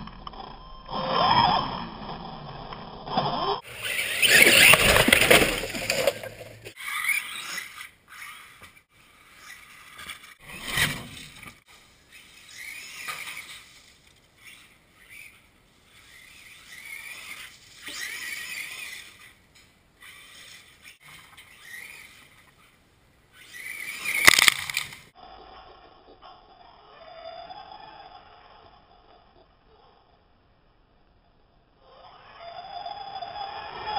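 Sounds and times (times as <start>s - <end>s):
rc car motor whining: 0.0s - 30.0s, 31.8s - 33.9s.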